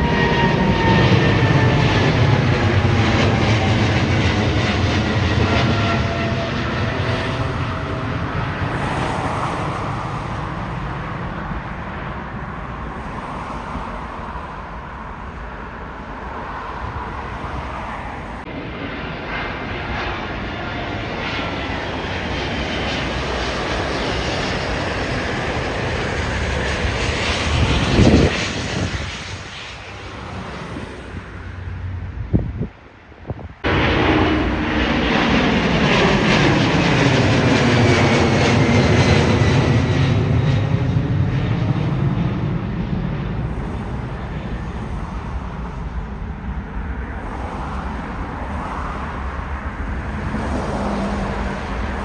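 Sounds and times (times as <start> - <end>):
jet engines roaring: 0.0 - 52.0.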